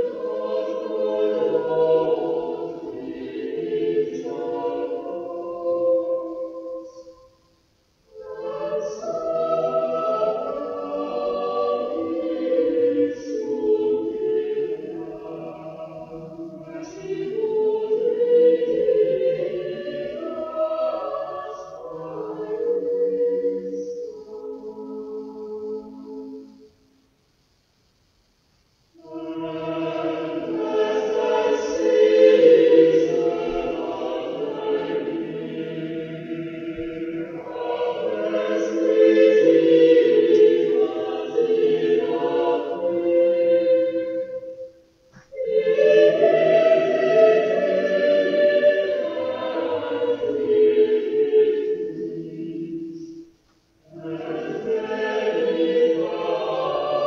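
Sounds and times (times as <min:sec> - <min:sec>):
choir singing sacred music: 0:00.0 - 0:27.5, 0:28.7 - 0:57.0.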